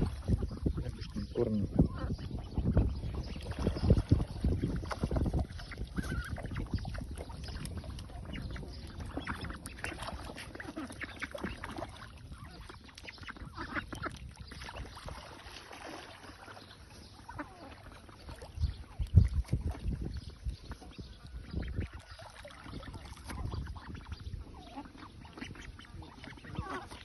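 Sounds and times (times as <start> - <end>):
ducks quacking: 0.0 - 27.0.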